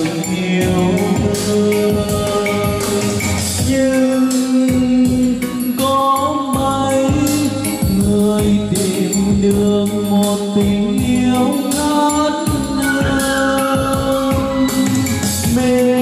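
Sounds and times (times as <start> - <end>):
backing track with steady beat: 0.0 - 16.0
person singing karaoke: 0.0 - 16.0.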